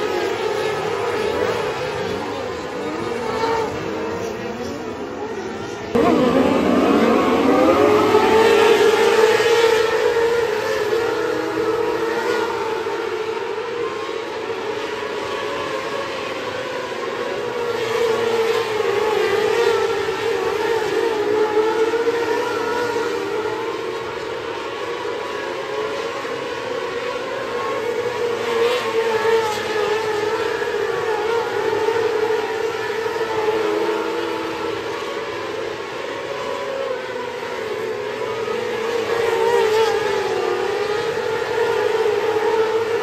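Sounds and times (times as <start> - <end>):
racing car engines whining: 0.0 - 43.0.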